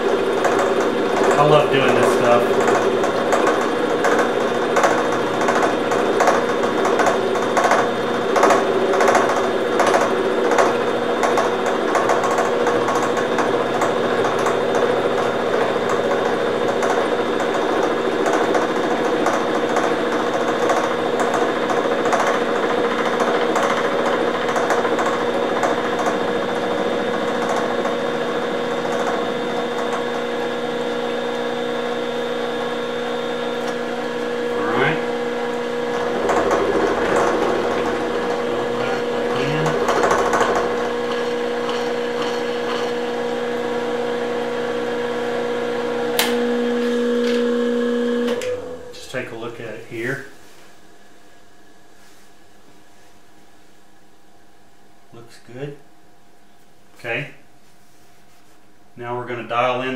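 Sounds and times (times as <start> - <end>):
coolant flowing: 0.0 - 49.8
milling machine motor hum: 0.0 - 55.5.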